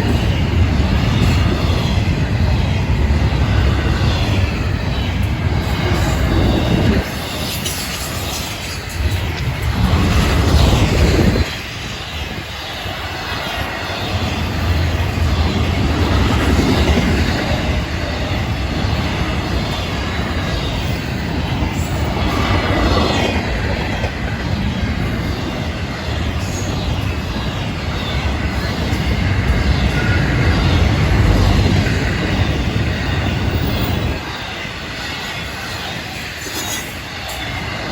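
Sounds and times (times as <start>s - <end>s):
train wheels rumbling on rail: 0.0s - 37.9s.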